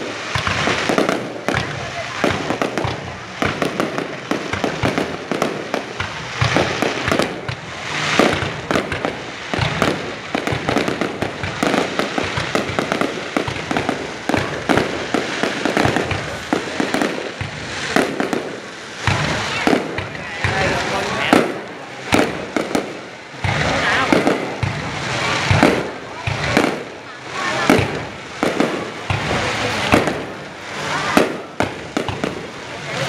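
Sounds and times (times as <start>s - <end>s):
firework hisses: 0.0s - 33.0s
fireworks bursting: 0.0s - 33.0s
fireworks crackling: 0.0s - 33.0s.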